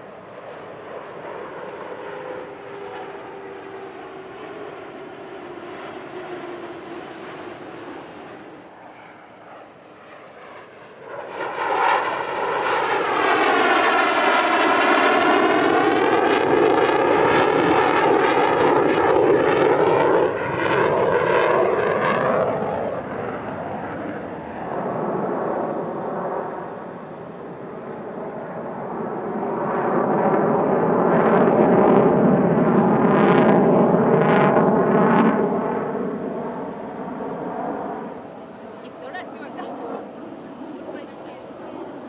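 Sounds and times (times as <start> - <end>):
fighter jet flying past: 0.0 - 42.0.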